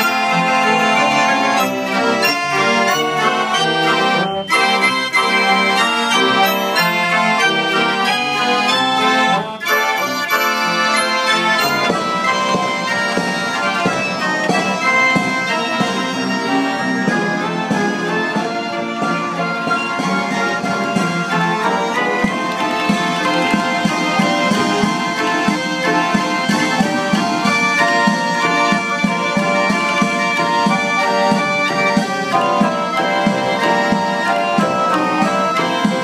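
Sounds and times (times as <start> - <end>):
self-playing piano with pipes: 0.0 - 36.0.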